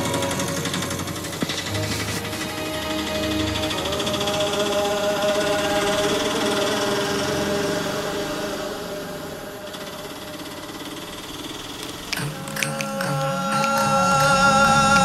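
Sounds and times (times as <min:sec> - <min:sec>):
music with singing voice: 0:00.0 - 0:11.0, 0:12.1 - 0:15.0.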